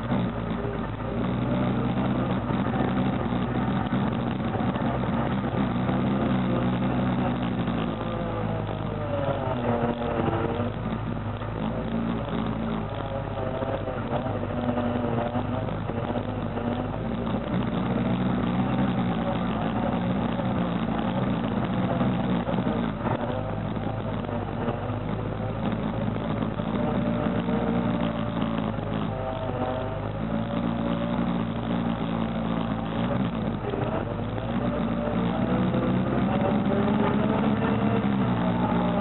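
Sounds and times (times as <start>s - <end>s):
atv engine revving: 0.0s - 39.0s.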